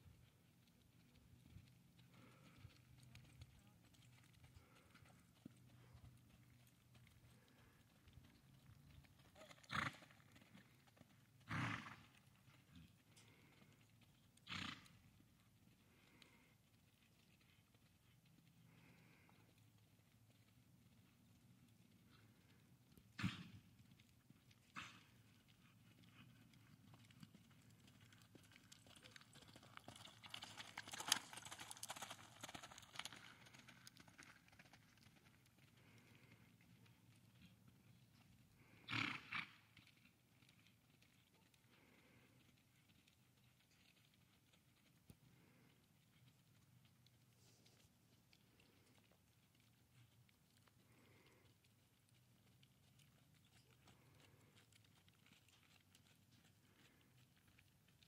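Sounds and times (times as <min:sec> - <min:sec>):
muffled hoofbeats on dirt: 0:00.0 - 0:58.0.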